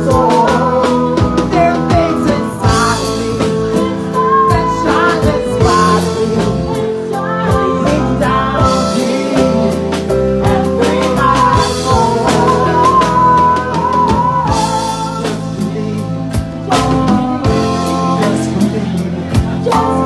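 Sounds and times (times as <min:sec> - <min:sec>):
drum kit beat: 0:00.0 - 0:20.0
guitar: 0:00.0 - 0:20.0
person singing: 0:00.0 - 0:20.0.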